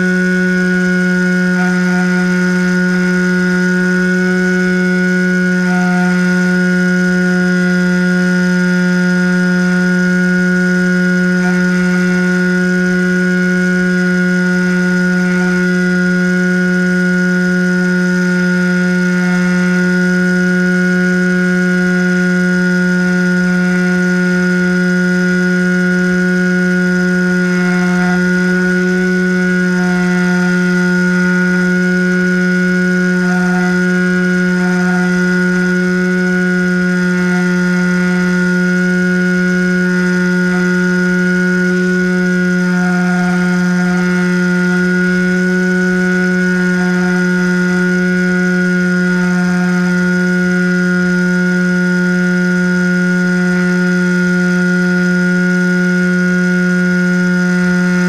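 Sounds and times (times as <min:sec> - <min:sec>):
model plane motor and propeller: 0:00.0 - 0:58.0.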